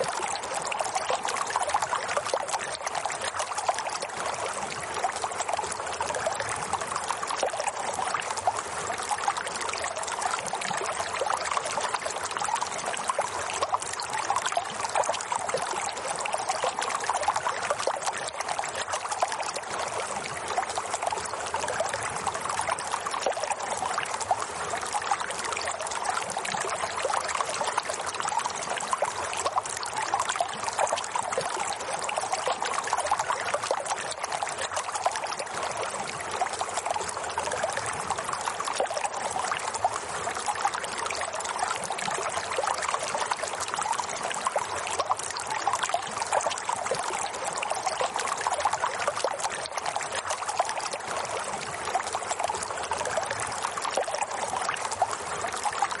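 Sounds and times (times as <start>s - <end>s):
running water trickling: 0.0s - 56.0s.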